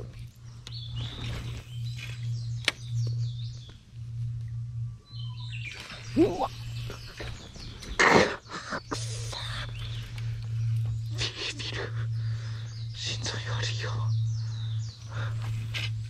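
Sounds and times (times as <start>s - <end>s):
birds chirping and calling: 0.0s - 16.0s
steady low hum: 0.0s - 16.0s.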